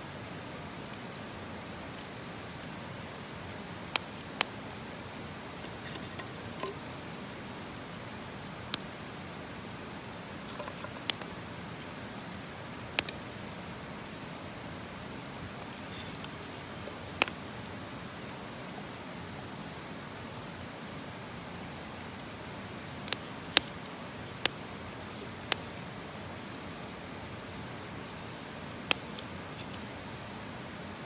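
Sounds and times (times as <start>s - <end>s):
campfire crackling and popping: 0.6s - 19.3s, 20.3s - 30.1s.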